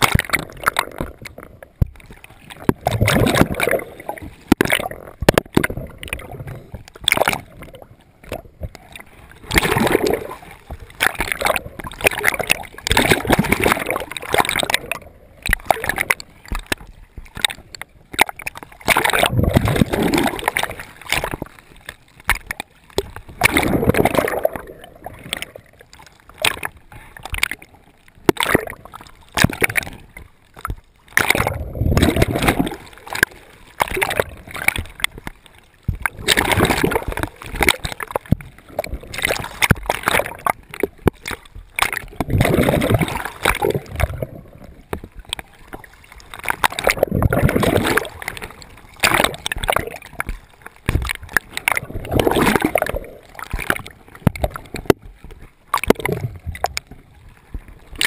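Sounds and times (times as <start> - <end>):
gurgling scuba bubbles: 0.0 - 58.0
water sloshing and splashing: 0.0 - 58.0.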